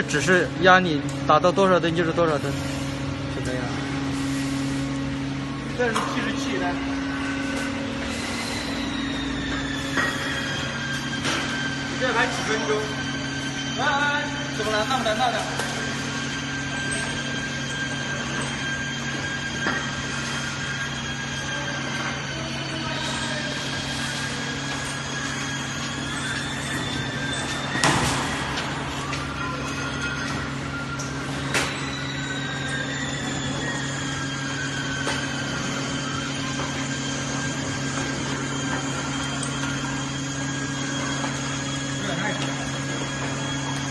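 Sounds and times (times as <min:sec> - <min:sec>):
hydraulic pump humming and whining: 0:00.0 - 0:43.9.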